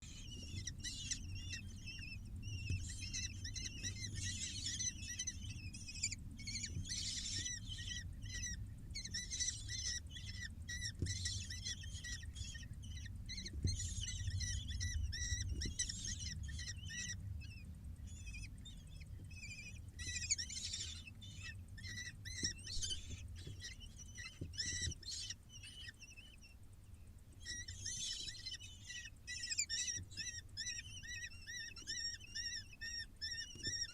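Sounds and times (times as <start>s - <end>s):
nestlings chirping: 0.0s - 33.9s.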